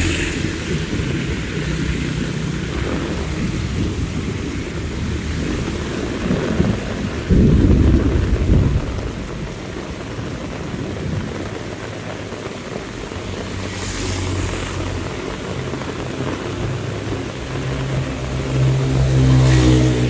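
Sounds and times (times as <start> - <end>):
heavy rain: 0.0 - 20.0
thunder rumbling: 0.0 - 20.0.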